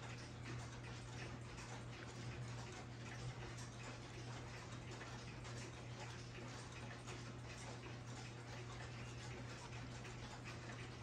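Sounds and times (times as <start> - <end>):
pendulum clocks ticking: 0.0 - 11.0.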